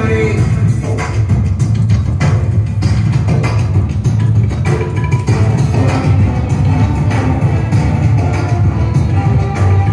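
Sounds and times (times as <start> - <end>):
music with drum beat and bass: 0.0 - 9.9.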